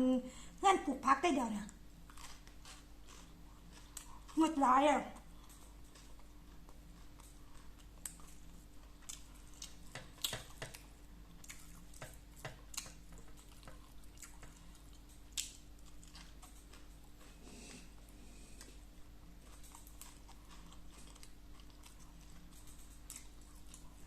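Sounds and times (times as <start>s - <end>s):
person chewing with wet clicks: 1.6s - 24.0s.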